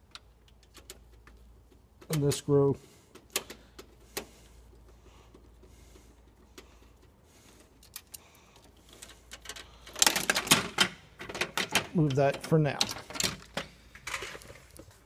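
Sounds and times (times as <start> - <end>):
rattling clatter of parts: 0.4 - 15.0.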